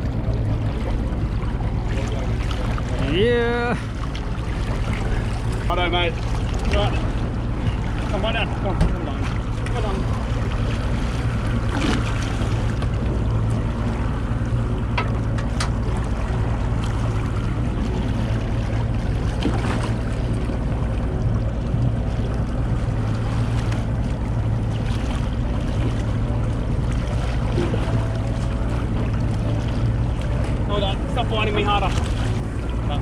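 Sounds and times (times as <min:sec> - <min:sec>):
boat engine low hum: 0:00.0 - 0:33.0
water and wind noise: 0:00.0 - 0:33.0.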